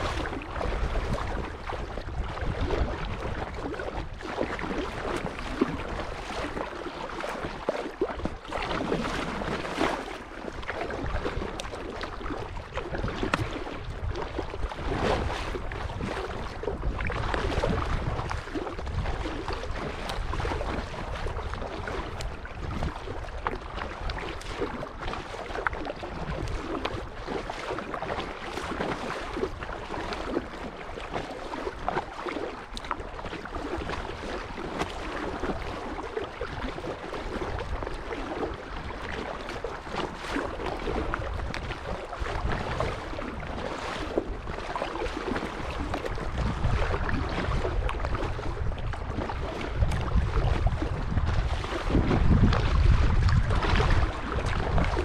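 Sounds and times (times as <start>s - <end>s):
water lapping against kayak hull: 0.0s - 55.0s
wind on microphone: 0.0s - 55.0s.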